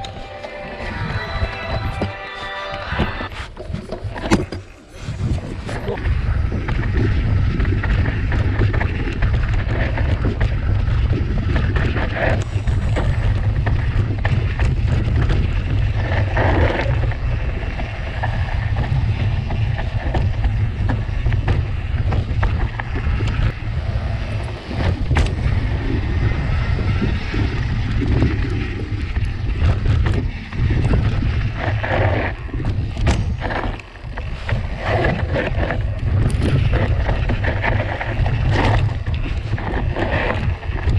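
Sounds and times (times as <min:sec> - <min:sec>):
bike tyre noise: 0:00.0 - 0:40.9
wind rumbling on microphone: 0:00.0 - 0:40.9
bike clicks and rattles: 0:03.3 - 0:40.9.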